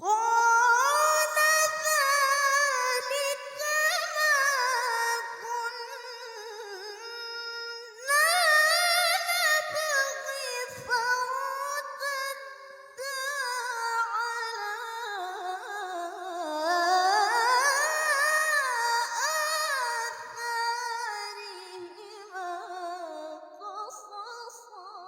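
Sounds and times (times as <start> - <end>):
woman reciting melodically: 0.0 - 25.0.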